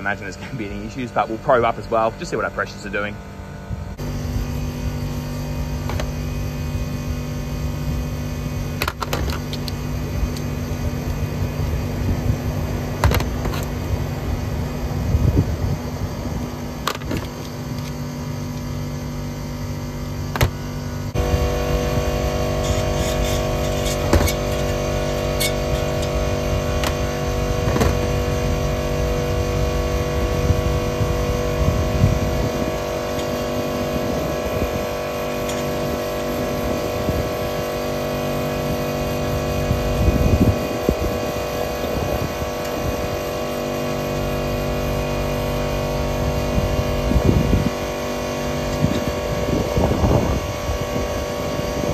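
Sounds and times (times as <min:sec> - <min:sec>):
air conditioner compressor hum: 0:00.0 - 0:51.9.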